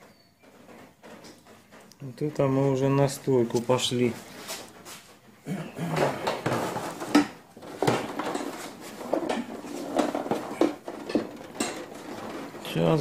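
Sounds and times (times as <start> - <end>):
sharp knocks and light clatters: 0.0 - 13.0.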